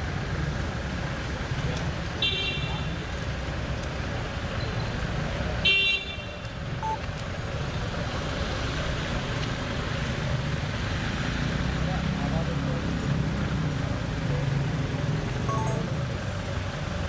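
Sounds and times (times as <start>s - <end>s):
outdoor traffic noise: 0.0s - 17.0s.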